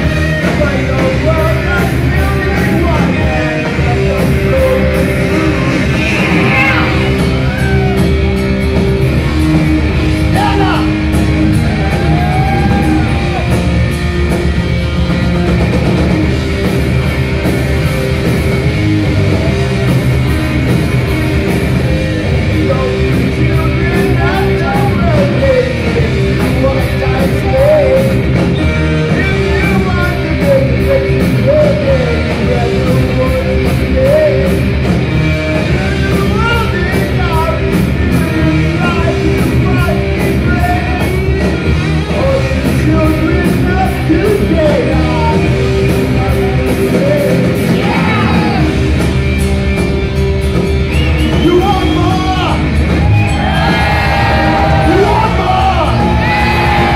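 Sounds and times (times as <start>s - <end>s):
heavy rock music with singing: 0.0s - 56.9s.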